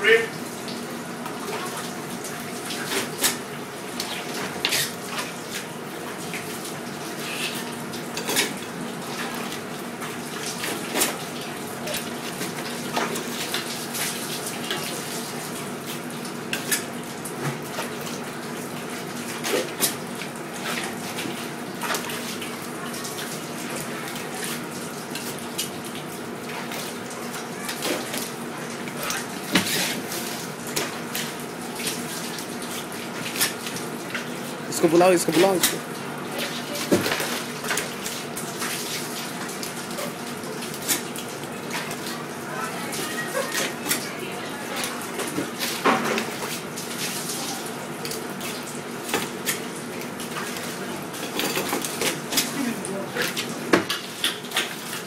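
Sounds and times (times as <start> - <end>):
tap water running: 0.0 - 55.0.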